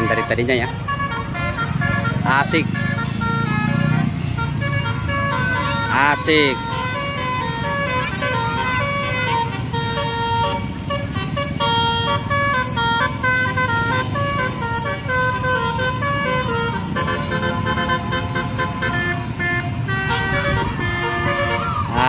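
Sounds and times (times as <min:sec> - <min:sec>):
bus engine running: 0:00.0 - 0:22.0
trumpet horns playing a melody: 0:00.0 - 0:22.0.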